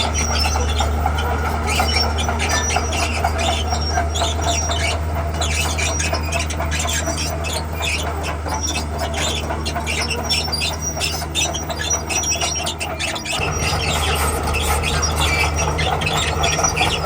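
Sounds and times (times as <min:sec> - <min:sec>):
steel tracks squealing and clanking: 0:00.0 - 0:17.0
tracked machine diesel engine: 0:00.0 - 0:17.0.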